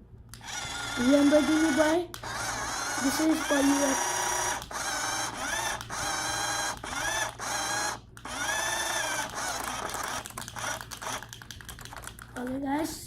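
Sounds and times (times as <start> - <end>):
toy car electric motor whirring: 0.3 - 12.2.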